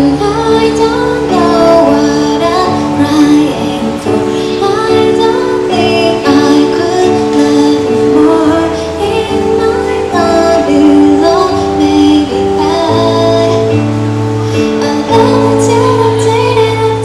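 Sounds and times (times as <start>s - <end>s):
instrumental backing: 0.0s - 17.0s
woman singing pop song: 0.0s - 17.0s.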